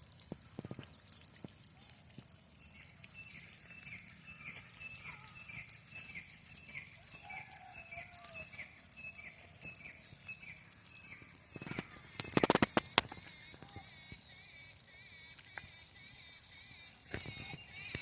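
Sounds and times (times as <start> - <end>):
steady high hiss: 0.0 - 18.0
bird calling: 2.6 - 18.0
lower falling bird call: 2.6 - 18.0.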